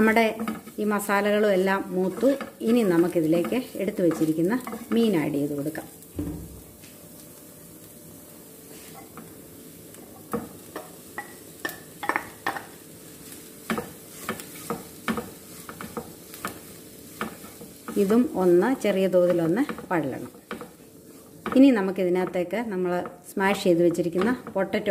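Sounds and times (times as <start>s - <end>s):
spatula scraping and knocking pan: 0.0s - 6.8s, 10.0s - 24.9s
faint sizzle in frying pan: 0.0s - 24.9s.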